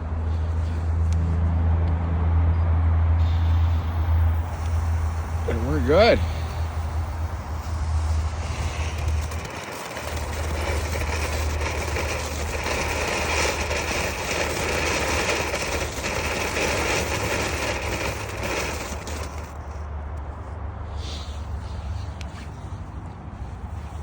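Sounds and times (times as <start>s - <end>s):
steady low rumble: 0.0s - 24.0s
firework hissing: 3.2s - 19.9s, 20.9s - 24.0s.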